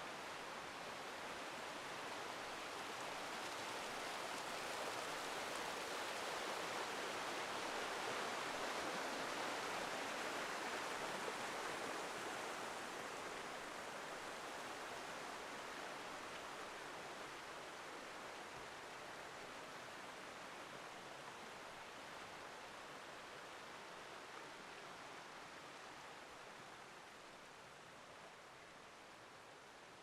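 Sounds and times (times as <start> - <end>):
stream rushing over rocks: 0.0 - 30.0.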